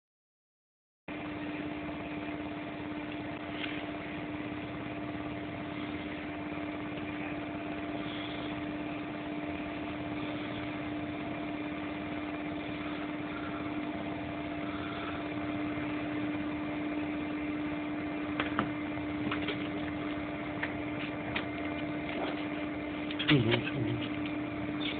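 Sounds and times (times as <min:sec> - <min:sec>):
mechanical hum: 0:01.1 - 0:24.9.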